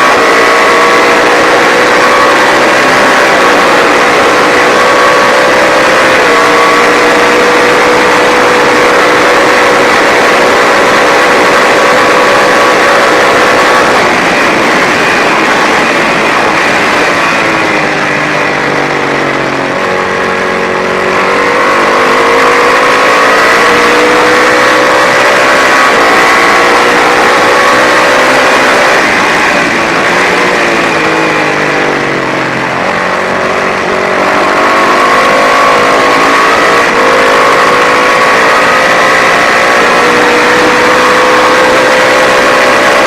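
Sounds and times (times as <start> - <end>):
racing motorcycle engine accelerating: 0.0 - 43.0.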